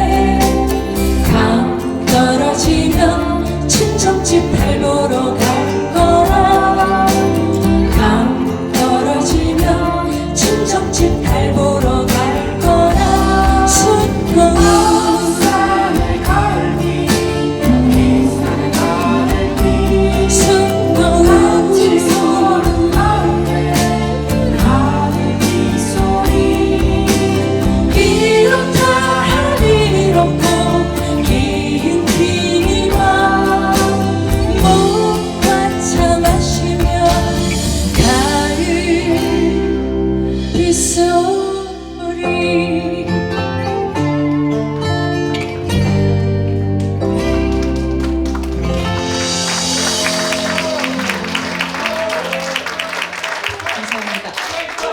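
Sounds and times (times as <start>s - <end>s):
person singing live: 0.0s - 45.2s, 48.9s - 53.8s.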